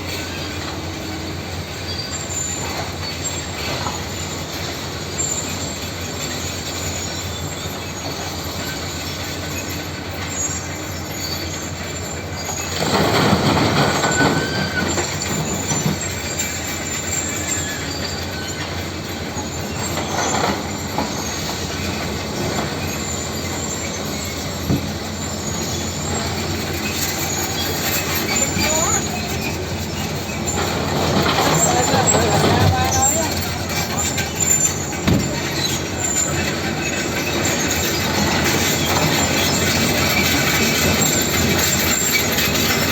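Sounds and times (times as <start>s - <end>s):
tractor engine running: 0.0s - 42.9s
metallic mechanical noise: 1.9s - 42.9s.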